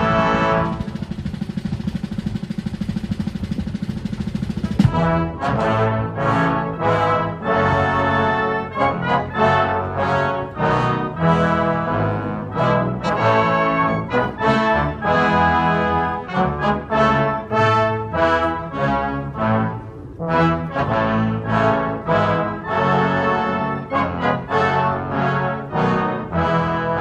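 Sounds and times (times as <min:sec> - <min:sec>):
brass band playing an anthem: 0:00.0 - 0:27.0.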